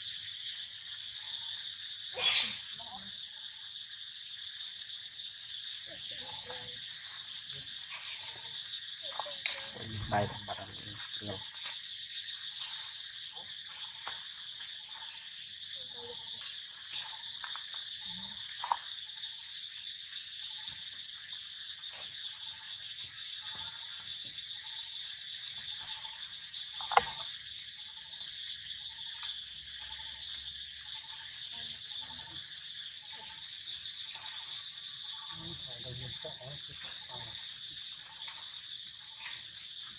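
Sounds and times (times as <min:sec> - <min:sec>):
insects droning in chorus: 0:00.0 - 0:39.9.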